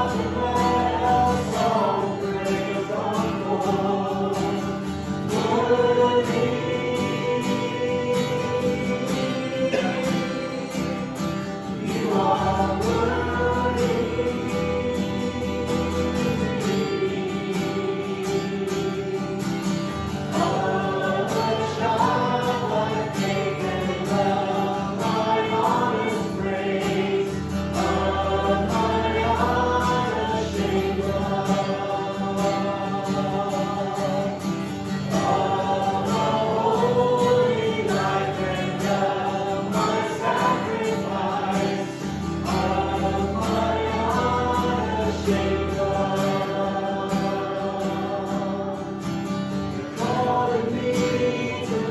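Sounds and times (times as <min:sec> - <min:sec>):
group of voices singing: 0:00.0 - 0:51.9
guitar: 0:00.0 - 0:51.9.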